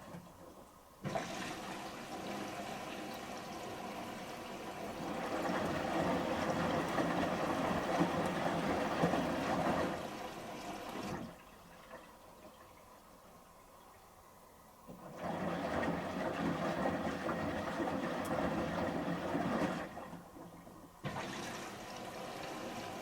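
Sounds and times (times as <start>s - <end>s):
water swishing in washing machine: 0.0s - 23.0s.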